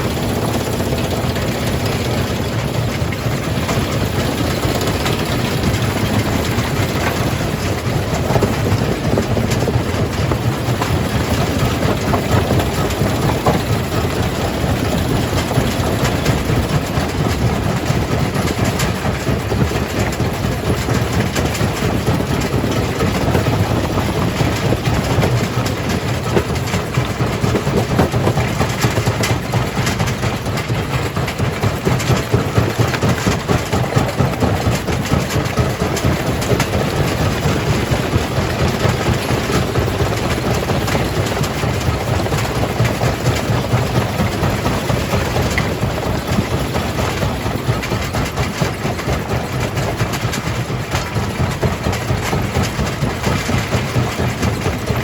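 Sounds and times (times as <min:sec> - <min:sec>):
jaw crusher machine rumble: 0:00.0 - 0:55.0.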